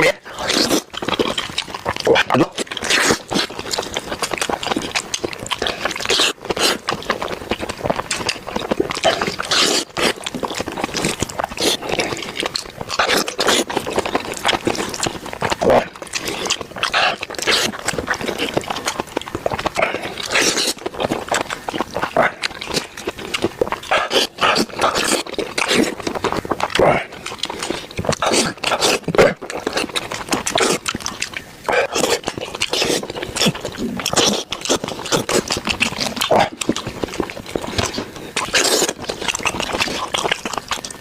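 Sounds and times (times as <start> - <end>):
man chewing and smacking: 0.0 - 41.0.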